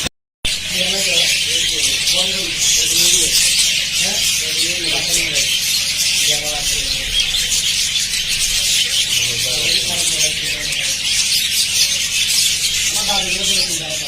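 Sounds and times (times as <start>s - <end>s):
budgerigars chattering: 0.5s - 14.0s.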